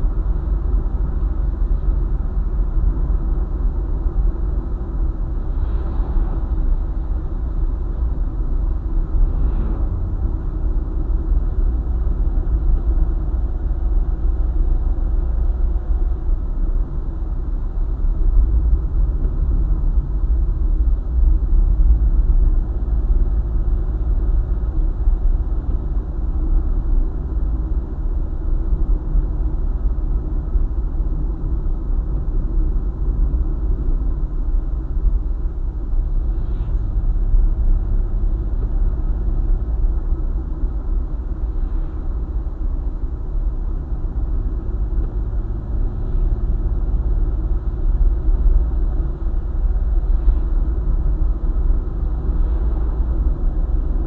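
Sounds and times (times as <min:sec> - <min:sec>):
car driving on highway: 0:00.0 - 0:54.0.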